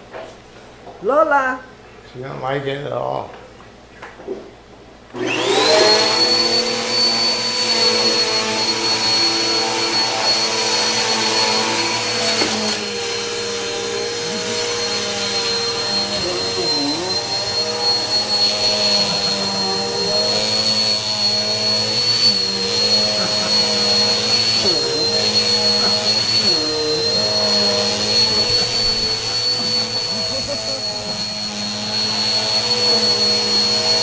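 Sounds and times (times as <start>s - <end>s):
vacuum cleaner running: 5.1s - 34.0s.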